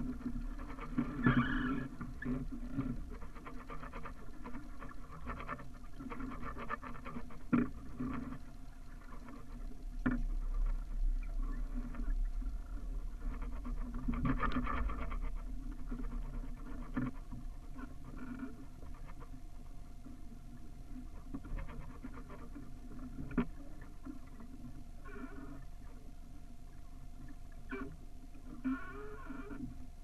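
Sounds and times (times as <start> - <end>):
water lapping against hull: 0.0 - 30.0.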